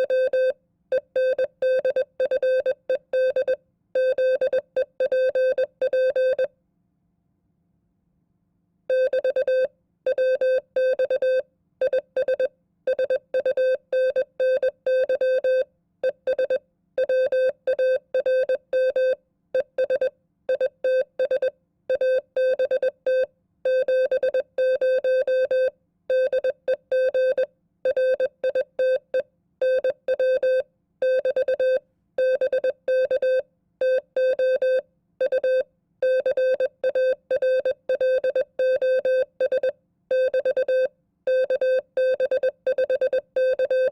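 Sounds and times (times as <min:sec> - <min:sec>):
morse code beeps: 0:01.2 - 0:06.5, 0:08.9 - 0:15.6, 0:16.3 - 0:29.0, 0:29.7 - 0:43.9.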